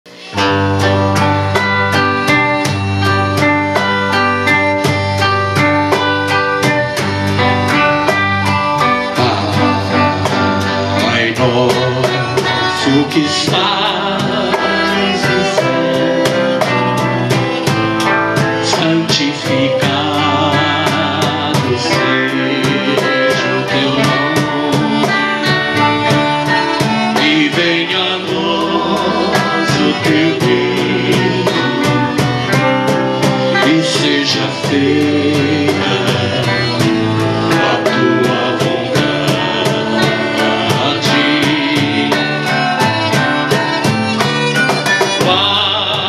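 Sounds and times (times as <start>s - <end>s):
acoustic guitars strummed: 0.1s - 46.0s
percussion beat: 0.1s - 46.0s.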